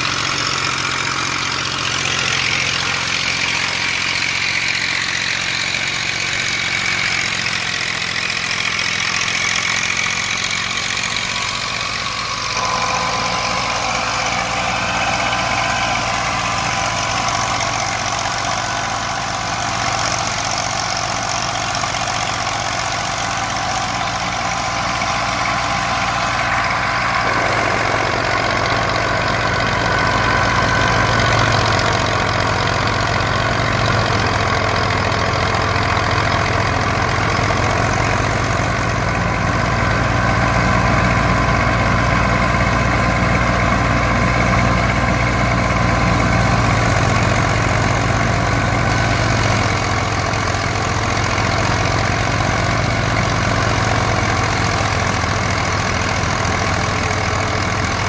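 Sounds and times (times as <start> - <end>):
grain thresher running: 0.0 - 58.0
tractor diesel engine running: 0.0 - 58.0.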